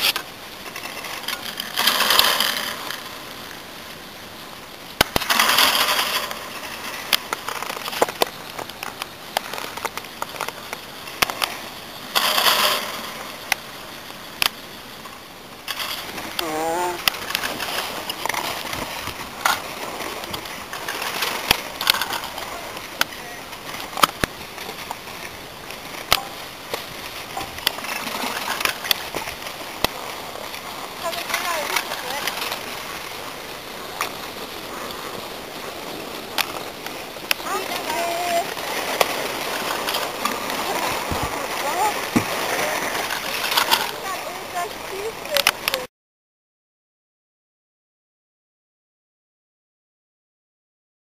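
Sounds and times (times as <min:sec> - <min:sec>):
skis hissing over snow: 0:00.0 - 0:45.4.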